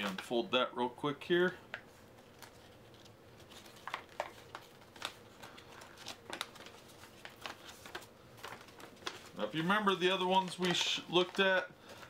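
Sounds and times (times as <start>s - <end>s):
stiff paper crackling and rustling: 1.7s - 12.0s.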